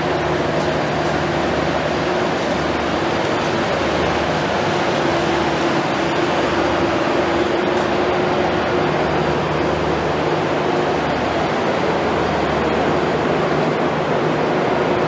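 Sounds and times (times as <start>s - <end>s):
passenger train hum: 0.0s - 15.0s.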